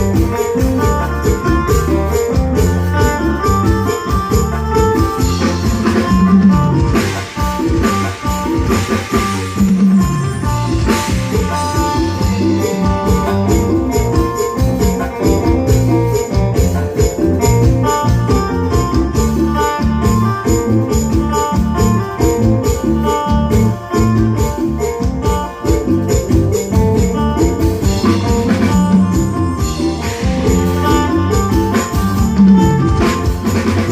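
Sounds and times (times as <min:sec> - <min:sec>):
music with fast percussion beat: 0:00.0 - 0:33.9.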